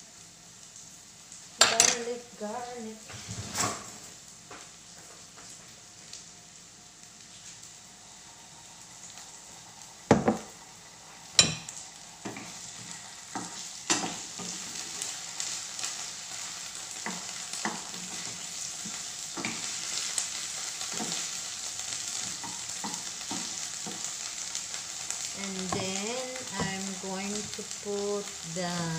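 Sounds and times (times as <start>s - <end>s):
onion sizzling in oil: 0.0s - 28.9s.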